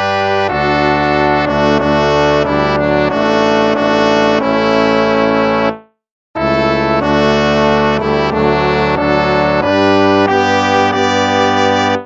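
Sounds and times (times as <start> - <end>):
brass hymn in slow chords: 0.0 - 12.0.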